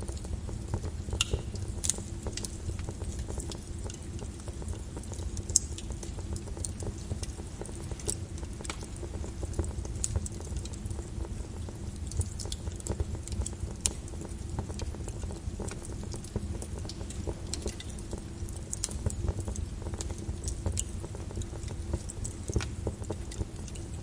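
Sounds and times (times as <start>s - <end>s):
lava crackling and popping: 0.0s - 24.0s.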